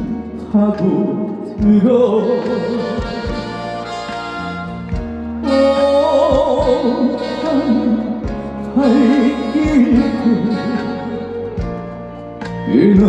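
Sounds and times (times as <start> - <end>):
live band playing: 0.0 - 13.0
man singing with vibrato: 0.0 - 13.0.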